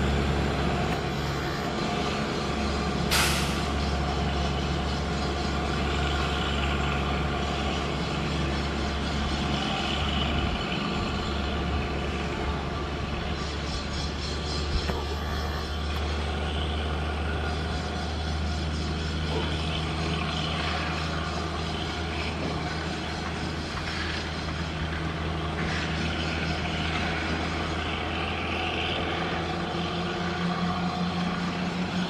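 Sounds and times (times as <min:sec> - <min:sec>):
diesel engine drone: 0:00.0 - 0:32.0.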